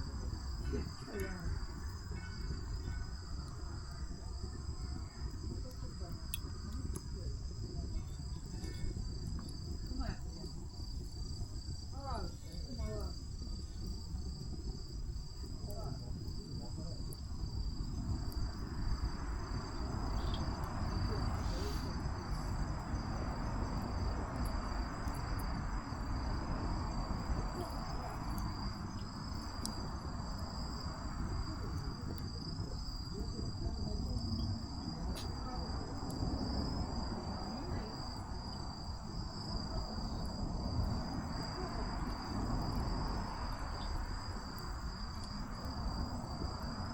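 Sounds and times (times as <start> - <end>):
campfire crackles: 0.0 - 46.9
insects trilling: 0.0 - 46.9.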